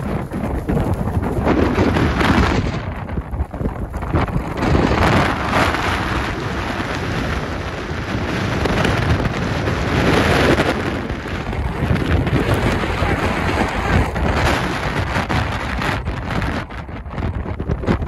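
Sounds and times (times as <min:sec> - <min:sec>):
blizzard wind gusting: 0:00.0 - 0:18.0.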